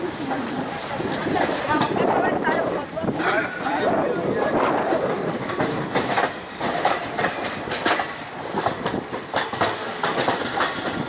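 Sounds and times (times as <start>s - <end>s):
train rumble: 0.0s - 11.0s
train wheels clattering over rail joints: 0.0s - 11.0s.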